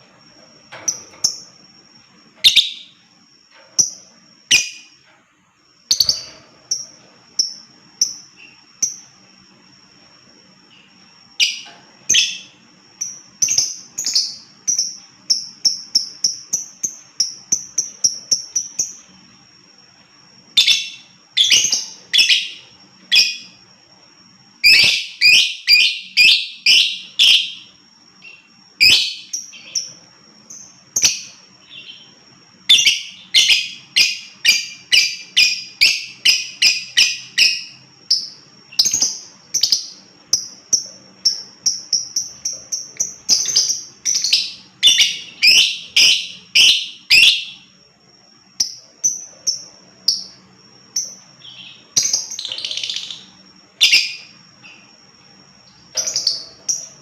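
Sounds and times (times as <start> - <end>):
lovebird chirping: 0.7 - 3.2, 3.8 - 5.0, 5.8 - 19.4, 20.5 - 23.7, 24.4 - 47.8, 48.6 - 57.0.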